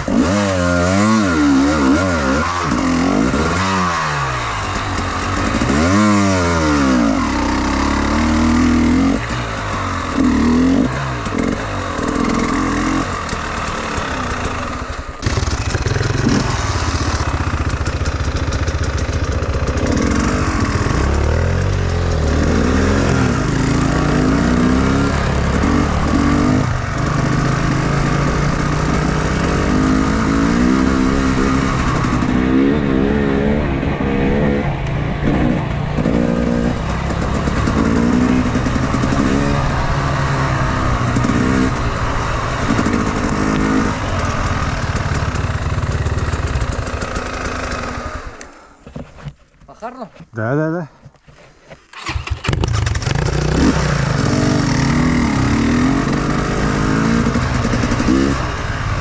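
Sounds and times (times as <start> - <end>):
motorcycle engine revving: 0.0 - 48.8, 51.9 - 59.0.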